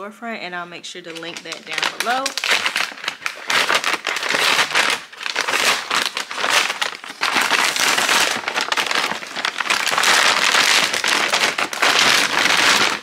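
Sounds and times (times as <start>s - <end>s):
paper mailer tearing and crinkling: 1.1s - 13.0s.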